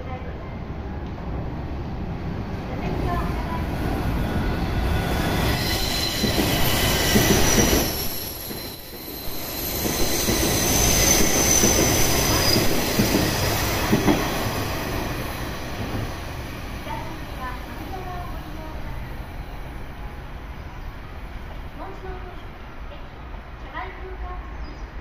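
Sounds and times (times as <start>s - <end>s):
train wheels rumbling on rail: 0.7s - 24.2s.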